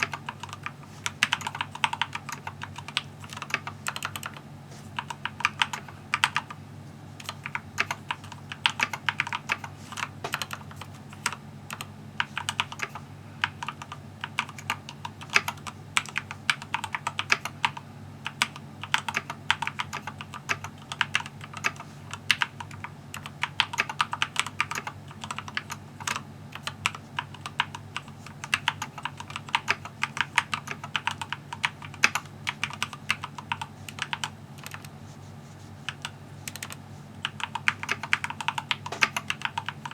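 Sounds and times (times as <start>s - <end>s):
mechanical keyboard typing: 0.0s - 4.4s, 5.0s - 6.6s, 7.2s - 35.0s, 35.9s - 39.9s.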